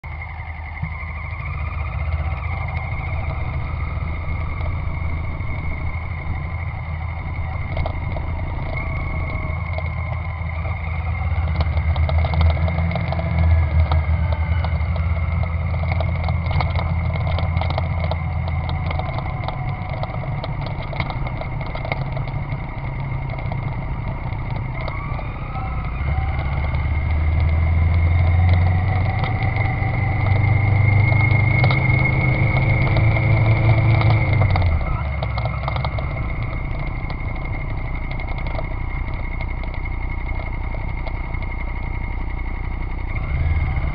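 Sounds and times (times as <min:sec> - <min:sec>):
fast ticking: 0:00.0 - 0:43.9
high whine: 0:00.0 - 0:43.9
motorcycle engine revving: 0:00.0 - 0:43.9.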